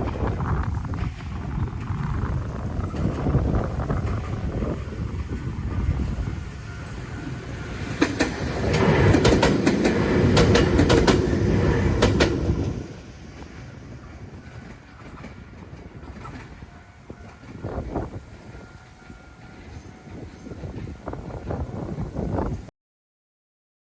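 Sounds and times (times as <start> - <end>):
train wheels clacking over rail joints: 0.0 - 22.4.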